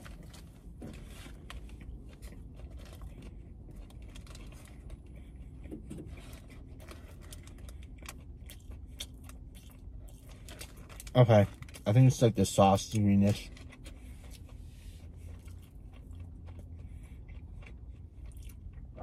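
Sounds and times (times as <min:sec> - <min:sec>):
low hum in car: 0:00.0 - 0:19.0
person chewing a burger: 0:00.0 - 0:19.0.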